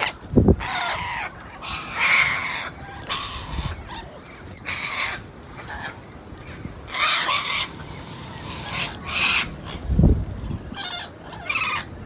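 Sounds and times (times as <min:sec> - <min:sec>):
parrot squawking: 0:00.0 - 0:12.0.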